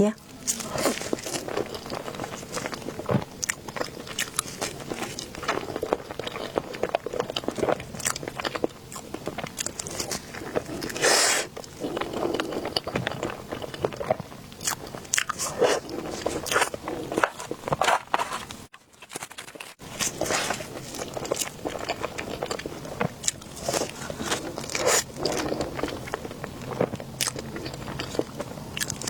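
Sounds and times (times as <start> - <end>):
person biting and chewing: 0.4 - 18.2, 19.0 - 29.0.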